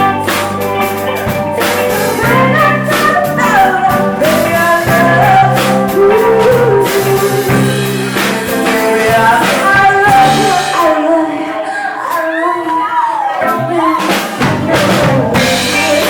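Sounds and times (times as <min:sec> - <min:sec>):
bass: 0:00.0 - 0:11.0, 0:13.5 - 0:16.0
drum kit: 0:00.0 - 0:11.6, 0:13.4 - 0:16.0
guitar: 0:00.0 - 0:16.0.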